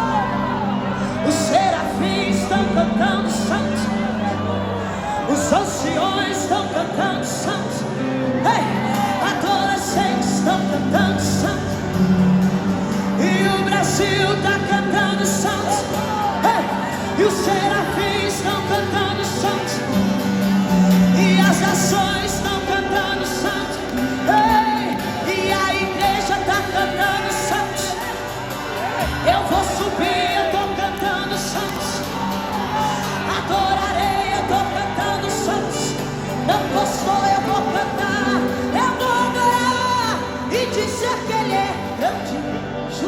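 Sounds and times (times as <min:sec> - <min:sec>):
live band playing: 0:00.1 - 0:43.0.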